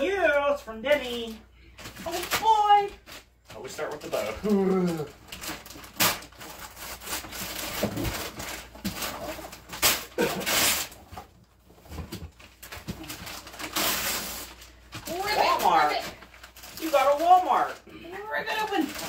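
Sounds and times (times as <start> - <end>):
wrapping paper ripping: 1.0 - 11.3, 12.3 - 19.0.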